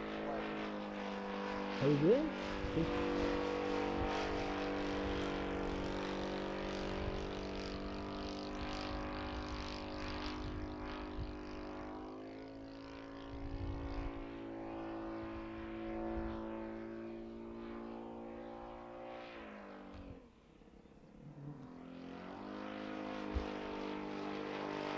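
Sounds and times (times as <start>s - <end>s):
model plane engine droning: 0.0s - 24.9s.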